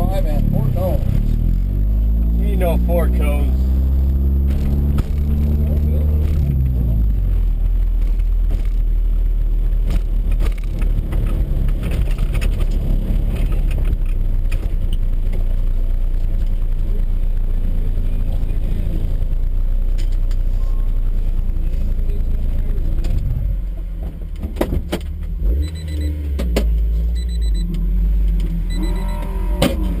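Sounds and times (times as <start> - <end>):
car engine rumble: 0.0 - 30.0
road noise: 0.0 - 30.0.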